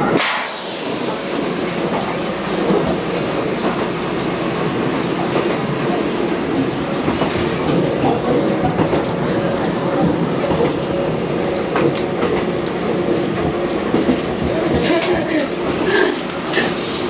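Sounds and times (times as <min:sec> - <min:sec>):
subway train rumble and hiss: 0:00.0 - 0:17.0.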